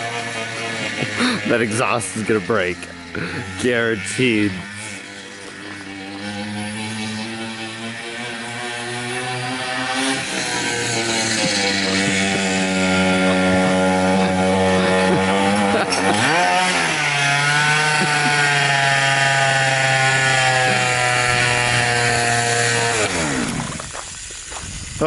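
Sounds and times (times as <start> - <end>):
two-stroke engine revving high: 0.0 - 25.0.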